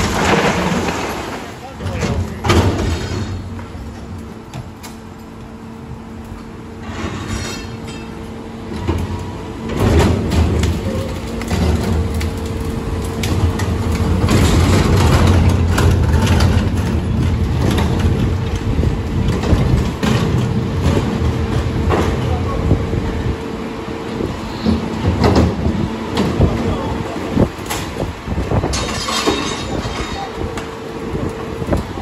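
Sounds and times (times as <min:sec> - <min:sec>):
debris clattering and cracking: 0:00.0 - 0:05.3, 0:06.2 - 0:23.4, 0:24.5 - 0:32.0
hydraulic packer working: 0:00.0 - 0:32.0
steel dumpsters rolling: 0:00.0 - 0:32.0.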